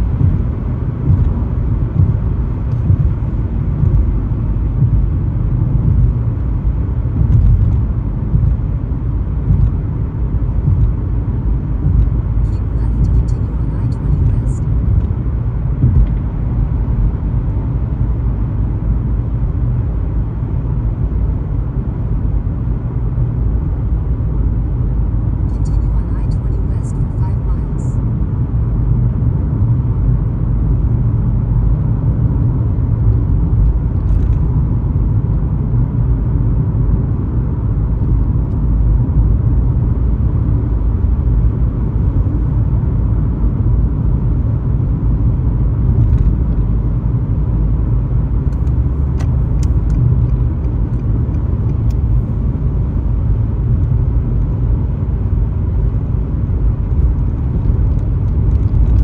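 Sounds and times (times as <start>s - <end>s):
car driving on highway: 0.0s - 59.0s.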